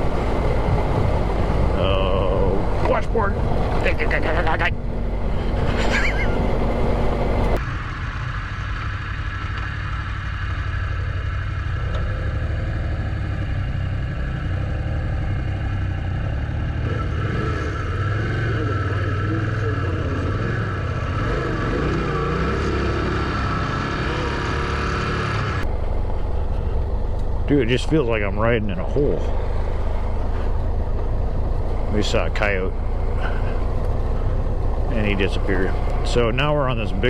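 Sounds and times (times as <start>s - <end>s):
motorcycle engine running: 0.0s - 5.5s, 7.0s - 37.0s
road and riding noise: 0.0s - 37.0s.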